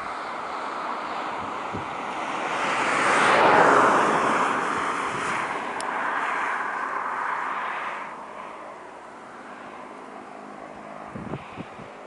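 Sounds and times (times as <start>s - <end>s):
jet engine rush: 0.0s - 12.0s.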